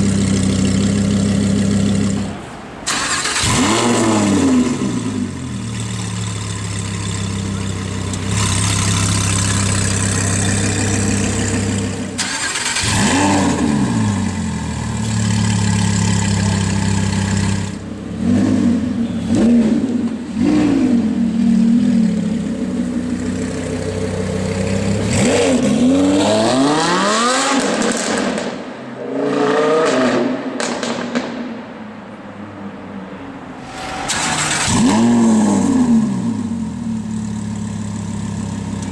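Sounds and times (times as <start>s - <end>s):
loud car engine revving: 0.0s - 31.0s, 33.6s - 38.9s.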